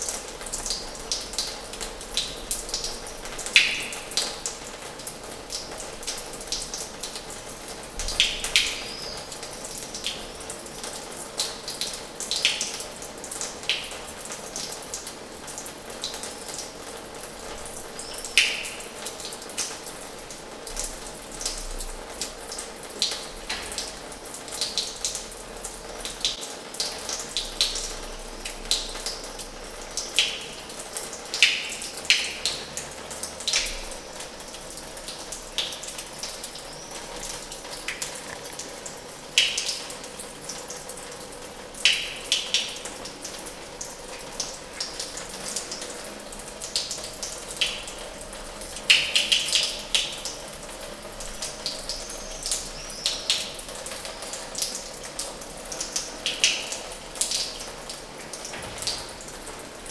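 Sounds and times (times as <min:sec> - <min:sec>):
tap water splashing into basin: 0:00.0 - 0:59.9
water plops and drips: 0:00.0 - 0:59.9.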